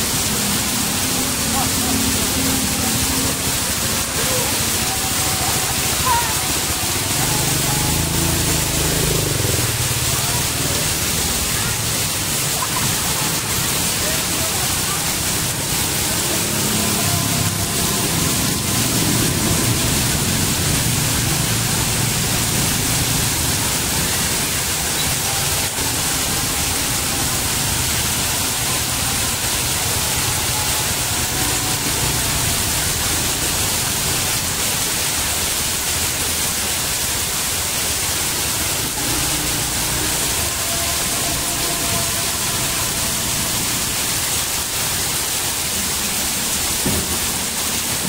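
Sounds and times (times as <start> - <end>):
heavy rain: 0.0 - 48.0
water pouring onto pavement: 0.0 - 48.0.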